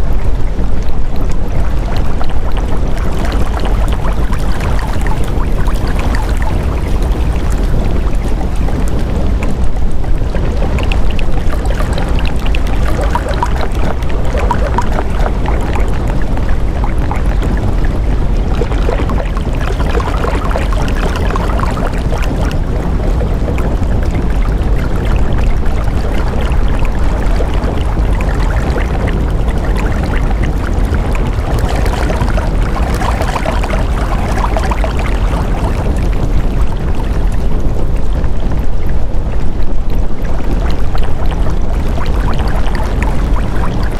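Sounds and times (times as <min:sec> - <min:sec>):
rushing water-like noise: 0:00.0 - 0:43.9.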